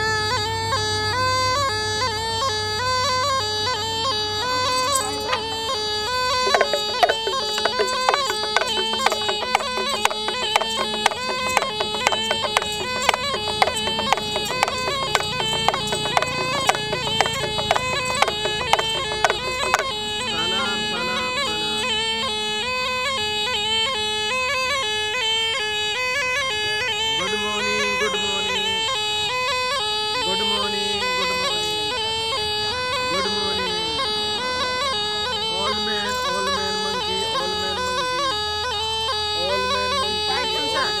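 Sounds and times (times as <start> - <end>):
pungi wind pipe melody: 0.0 - 41.0.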